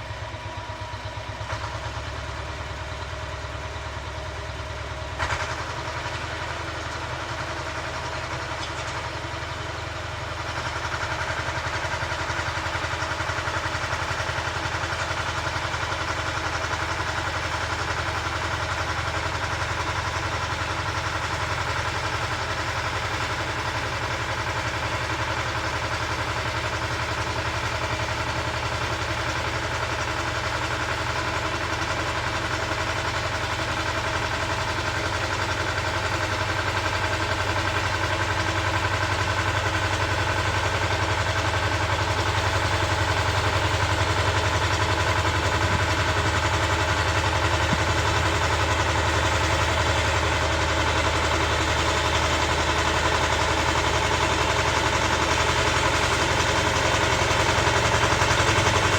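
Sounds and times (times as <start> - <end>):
motor cultivator engine tilling: 0.0 - 58.9.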